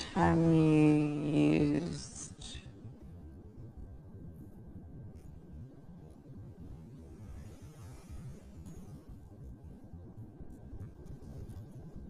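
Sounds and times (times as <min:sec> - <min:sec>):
low rumbling drone: 0:00.0 - 0:10.8.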